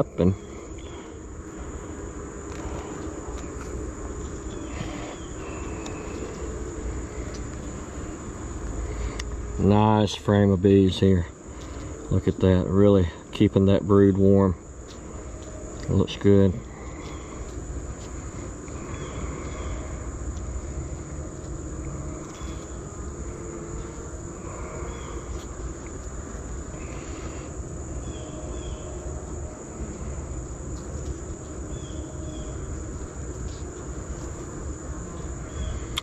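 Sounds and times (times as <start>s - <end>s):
high-pitched insect chorus: 0.0s - 36.0s
honey bees humming: 0.0s - 36.0s.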